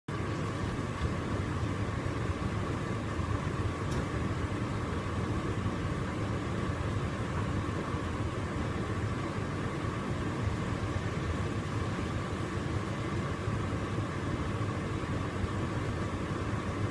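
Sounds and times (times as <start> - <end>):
tumble dryer running: 0.1 - 16.9.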